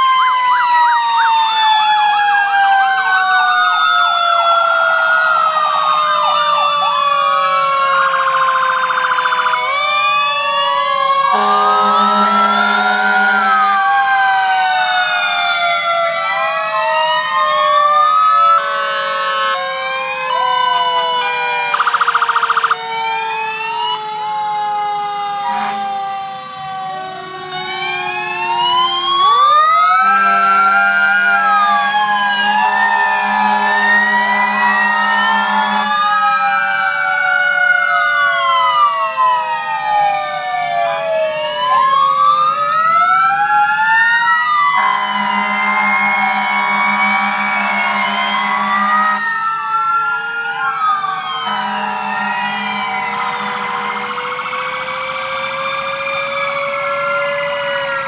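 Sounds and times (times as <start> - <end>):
fire engine sirens wailing: 0.0 - 58.0.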